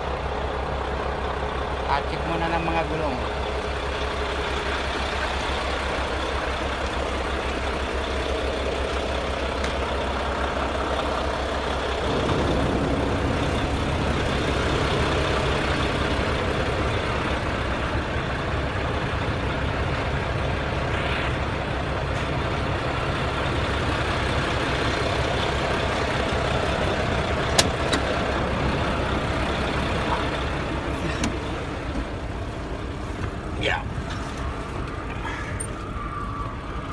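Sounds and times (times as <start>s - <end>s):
truck engine running: 0.0s - 36.9s.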